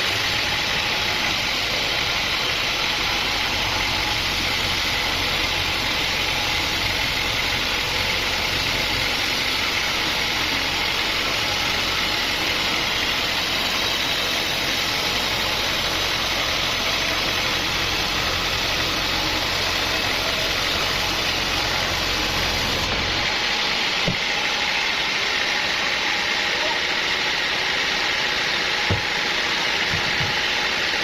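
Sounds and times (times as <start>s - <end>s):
sawmill machinery humming: 0.0s - 31.0s.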